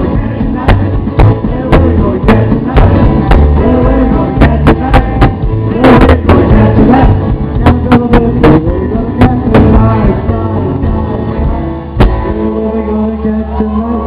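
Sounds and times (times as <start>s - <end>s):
live rockabilly band playing: 0.0s - 14.0s.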